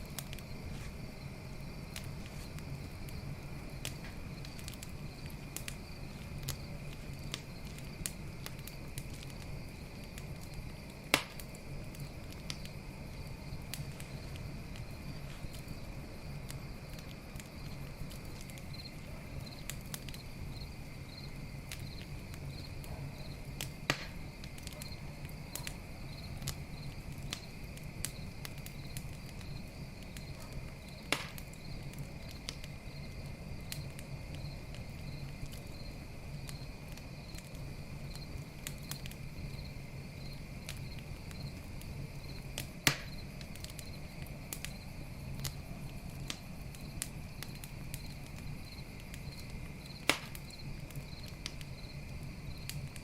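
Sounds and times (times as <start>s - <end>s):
campfire crackling and popping: 0.0s - 53.0s
crickets chirping: 0.0s - 53.0s.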